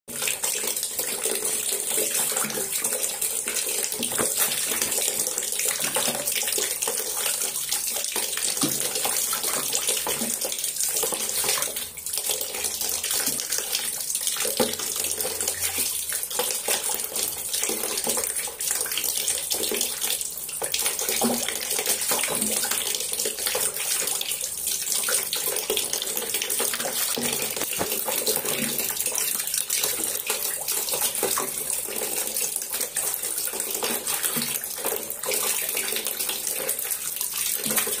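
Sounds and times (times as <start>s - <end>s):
water running into tub: 0.1s - 38.0s.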